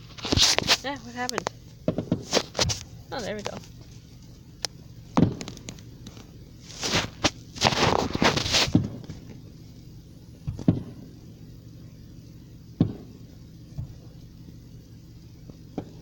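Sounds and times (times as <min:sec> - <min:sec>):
car engine humming: 0:00.0 - 0:16.0
fireworks bangs and booms: 0:00.4 - 0:14.8, 0:15.4 - 0:16.0.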